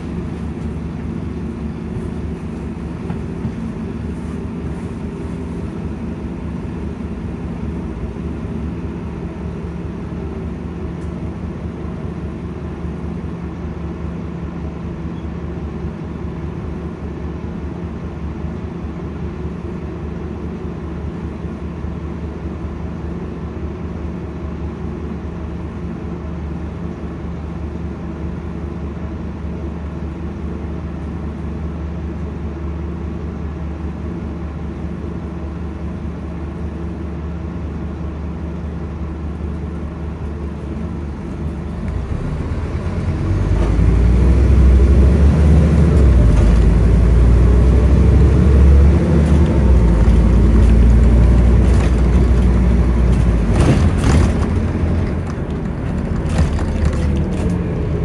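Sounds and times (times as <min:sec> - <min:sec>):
bus diesel engine idling: 0:00.0 - 0:58.0
bus engine accelerating: 0:00.0 - 0:58.0.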